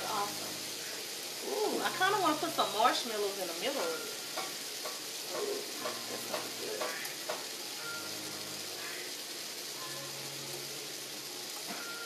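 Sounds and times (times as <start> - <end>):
food sizzling in pans: 0.0 - 12.0.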